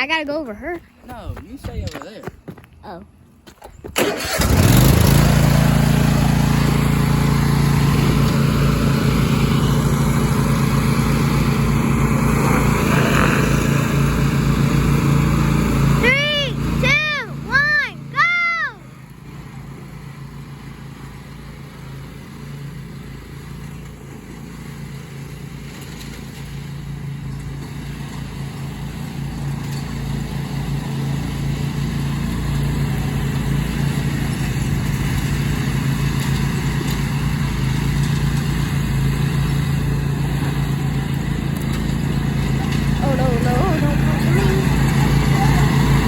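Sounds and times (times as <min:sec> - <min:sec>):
riding lawn mower engines: 0:03.3 - 0:46.0.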